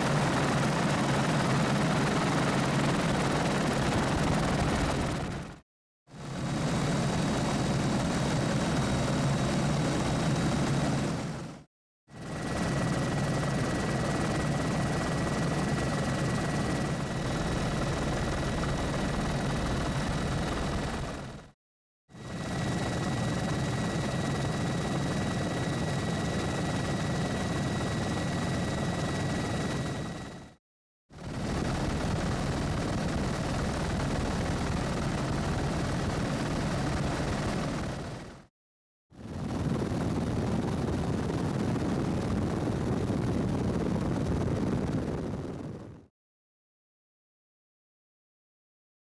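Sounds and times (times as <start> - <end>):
helicopter rotor and engine: 0.0 - 38.5, 39.2 - 46.1.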